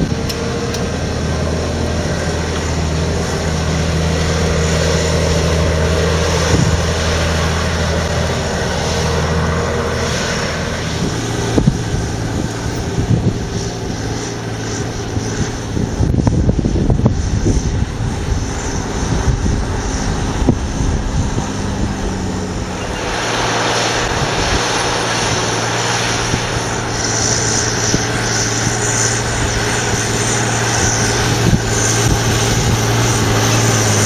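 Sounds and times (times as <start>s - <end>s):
tractor diesel engine working hard: 0.0s - 34.0s.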